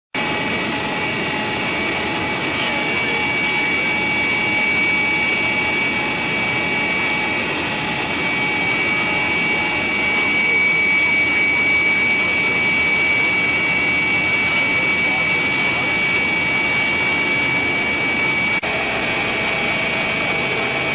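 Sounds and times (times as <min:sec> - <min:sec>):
aircraft engine rush in cabin: 0:00.2 - 0:20.9
high whining tones: 0:00.2 - 0:20.9.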